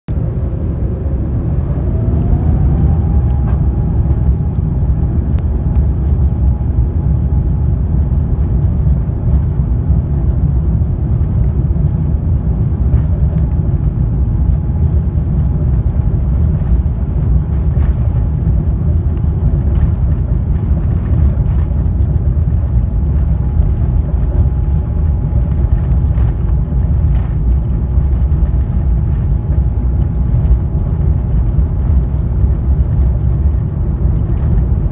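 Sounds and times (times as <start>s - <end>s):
jet engine cabin rumble: 0.1s - 34.9s
jet engine whine: 0.1s - 34.9s.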